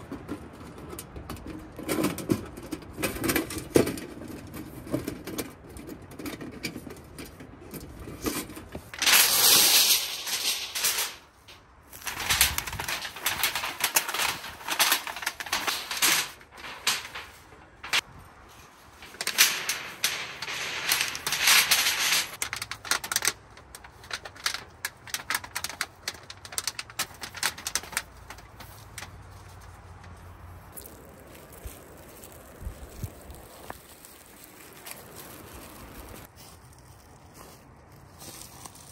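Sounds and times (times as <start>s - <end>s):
metal sheet crinkling and rattling: 0.0s - 36.3s.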